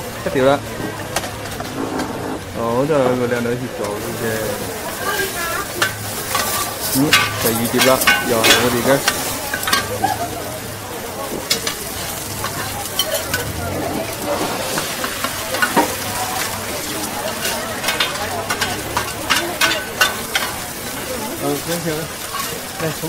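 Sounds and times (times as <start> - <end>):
utensil scraping a pan: 1.2 - 2.5, 3.8 - 10.1, 11.2 - 23.0
food sizzling in a pan: 3.7 - 23.0.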